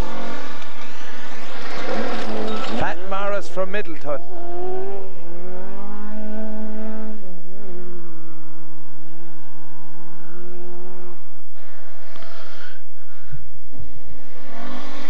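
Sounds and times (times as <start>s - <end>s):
rally car engine high revs: 0.0s - 15.0s.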